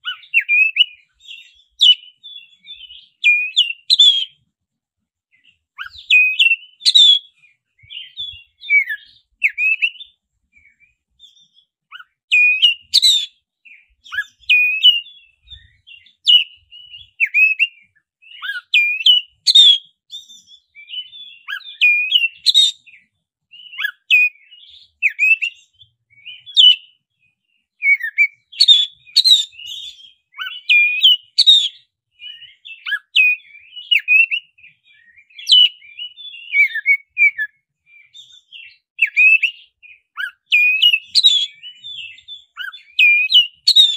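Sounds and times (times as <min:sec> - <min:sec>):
bird singing whistled phrases: 0:00.0 - 0:04.4, 0:05.3 - 0:43.9.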